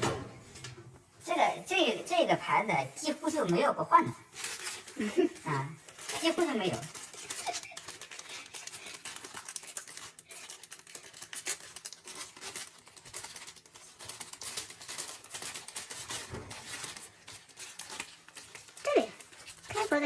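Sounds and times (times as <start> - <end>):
small clicks scrapes and rustles: 1.3 - 20.0.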